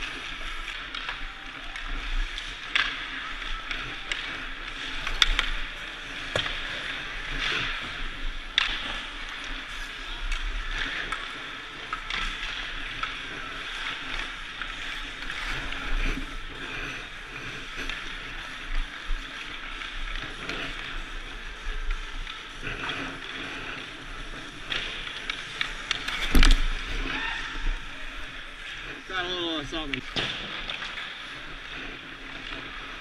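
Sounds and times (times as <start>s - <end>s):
hockey sticks and pucks clacking: 0.0s - 33.0s
skate blades scraping ice: 0.0s - 33.0s.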